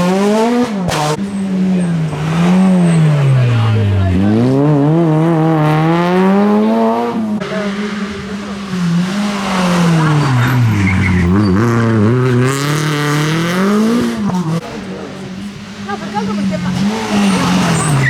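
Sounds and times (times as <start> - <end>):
rally car engine accelerating: 0.0 - 18.0.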